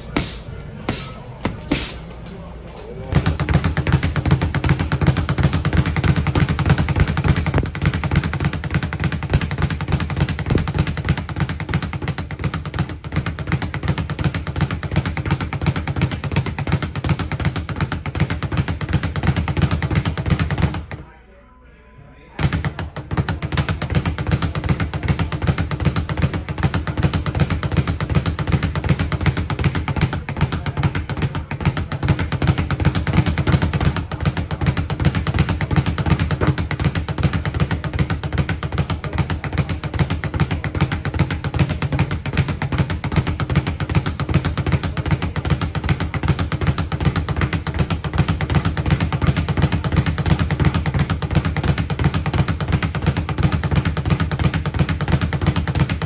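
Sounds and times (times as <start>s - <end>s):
speed bag rattling: 3.2s - 21.0s, 22.4s - 56.0s.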